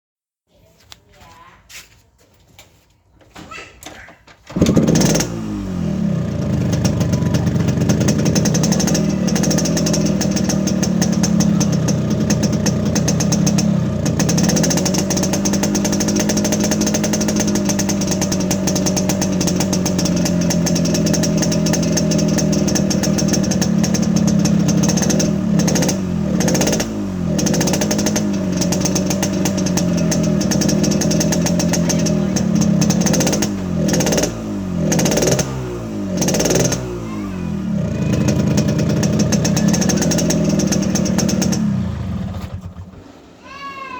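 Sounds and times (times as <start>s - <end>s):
motorcycle engine starting and idling: 3.8s - 43.4s.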